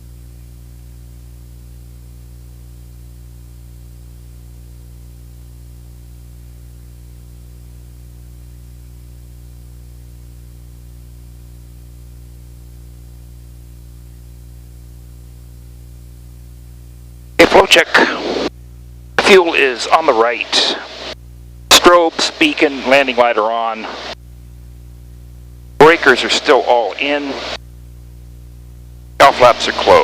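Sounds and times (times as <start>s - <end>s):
constant hiss: 0.0s - 30.0s.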